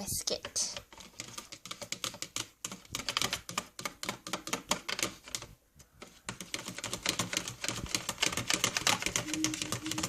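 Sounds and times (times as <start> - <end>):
whisk rattling against bowl: 0.6 - 5.2, 6.3 - 10.0.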